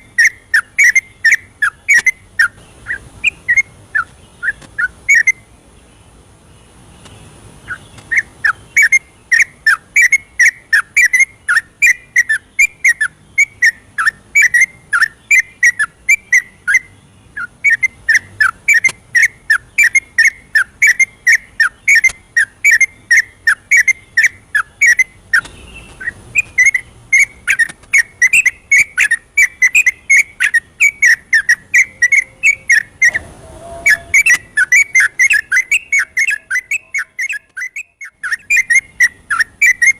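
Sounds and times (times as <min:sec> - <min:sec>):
bird singing whistled notes: 0:00.0 - 0:05.5, 0:07.7 - 0:39.9.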